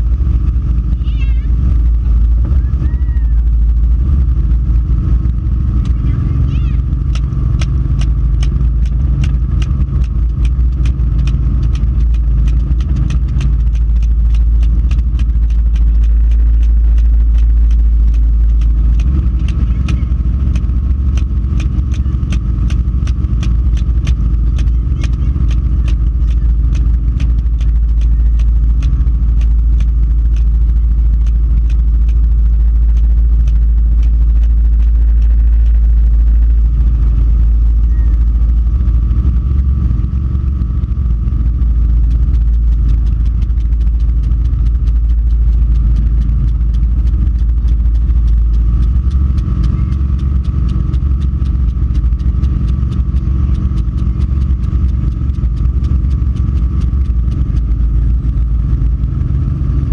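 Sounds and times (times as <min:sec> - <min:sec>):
helicopter engine and rotor rumble: 0:00.0 - 0:59.9
fast sharp ticks: 0:06.9 - 0:37.4, 0:39.0 - 0:59.9.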